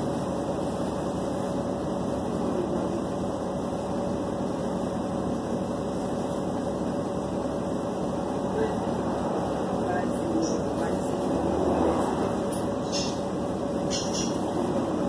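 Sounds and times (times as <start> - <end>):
air conditioning blowing: 0.0 - 15.0
bus engine rumbling: 0.0 - 15.0.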